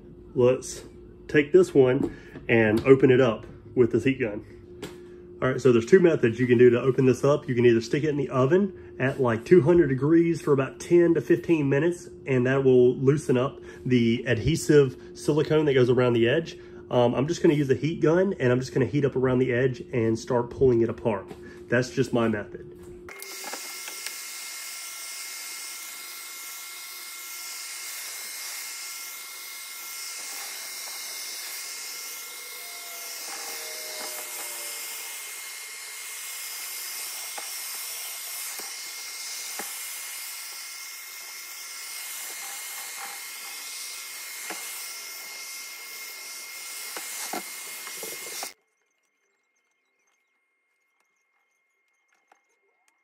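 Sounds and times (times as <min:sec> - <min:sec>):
heat gun fan whine and hiss: 0:00.0 - 0:48.6.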